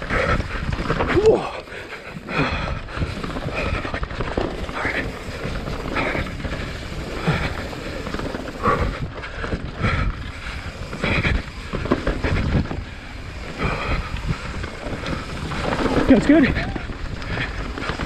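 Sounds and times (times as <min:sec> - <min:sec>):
mountain bike rumbling on dirt: 0:00.0 - 0:18.0
wind buffeting microphone: 0:00.0 - 0:18.0.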